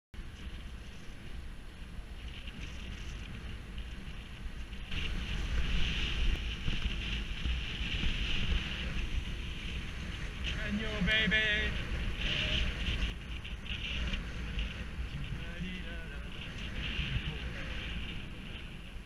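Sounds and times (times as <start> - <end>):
wind buffeting microphone: 0.2 - 19.0.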